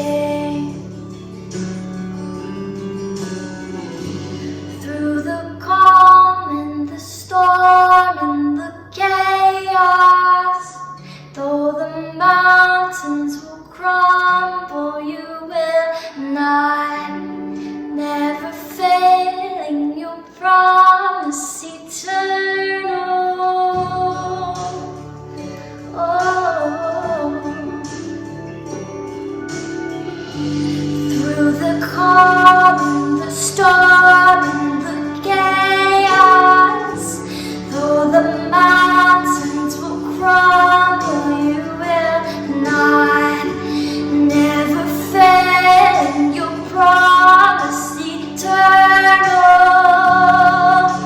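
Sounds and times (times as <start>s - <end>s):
woman singing worship melody: 0.0s - 0.9s, 4.8s - 25.1s, 25.8s - 28.3s, 31.0s - 51.0s.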